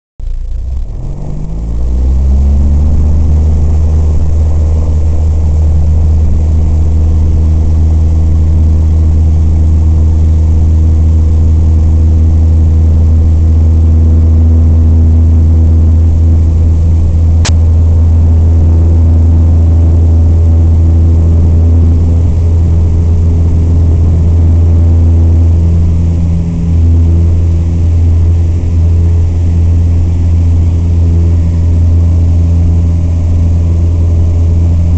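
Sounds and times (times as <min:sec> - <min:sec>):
light aircraft engine and propeller: 0:00.2 - 0:34.9.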